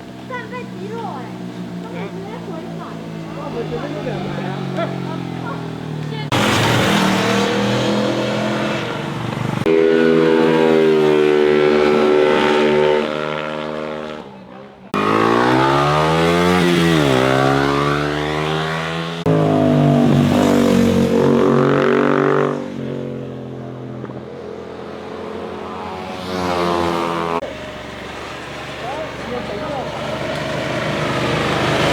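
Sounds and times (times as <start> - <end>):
motorcycle engines running hard: 0.0 - 31.9.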